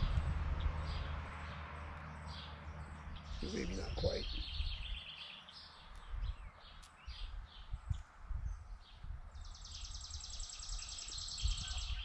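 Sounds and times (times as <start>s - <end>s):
wind rumble on microphone: 0.0s - 1.8s, 2.9s - 5.1s, 6.0s - 12.0s
birds chirping: 0.0s - 12.0s.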